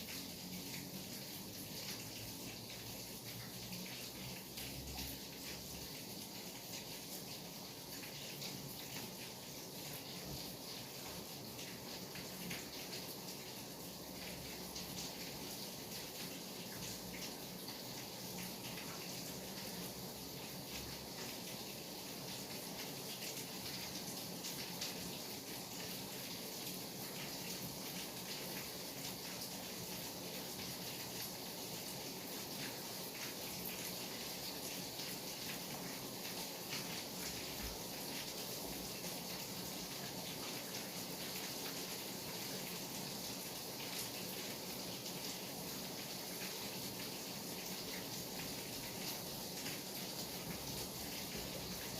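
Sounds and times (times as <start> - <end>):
patter of raindrops: 0.0 - 51.9
steady rain hiss: 0.0 - 51.9.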